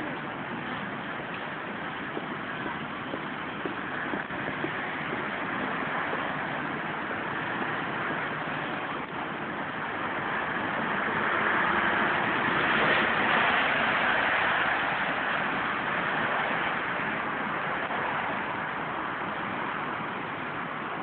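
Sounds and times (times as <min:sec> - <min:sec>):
buses passing: 0:00.0 - 0:21.0
cars passing: 0:00.0 - 0:21.0
trucks passing: 0:00.0 - 0:21.0.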